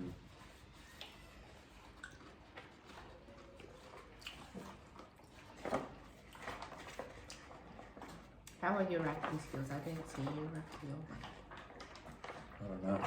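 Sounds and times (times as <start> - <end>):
chewing and mouth sounds: 0.8 - 13.0.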